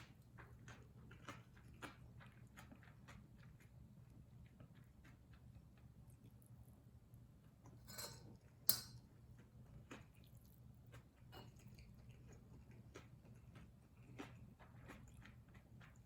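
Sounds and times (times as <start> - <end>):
person chewing: 0.0 - 6.5, 9.2 - 16.0.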